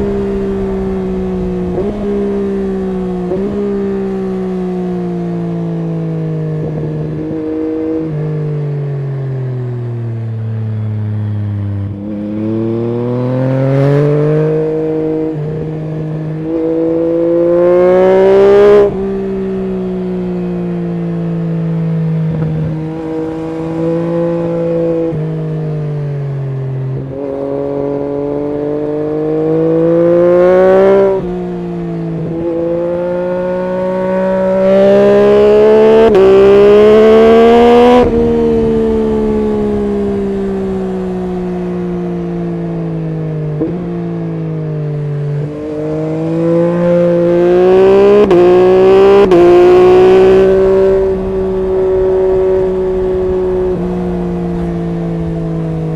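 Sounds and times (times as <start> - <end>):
motorcycle engine revving through gears: 0.0 - 55.9.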